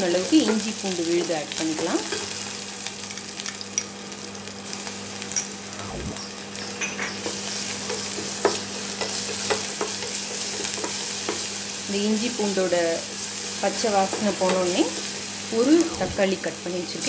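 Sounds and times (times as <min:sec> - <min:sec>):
onions sizzling in hot oil: 0:00.0 - 0:05.7, 0:06.4 - 0:17.0.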